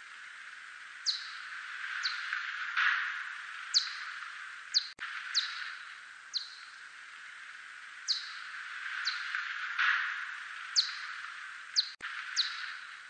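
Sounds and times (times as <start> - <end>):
steady hiss: 0.0 - 13.0
bat echolocation chirps: 1.0 - 7.4, 8.0 - 13.0.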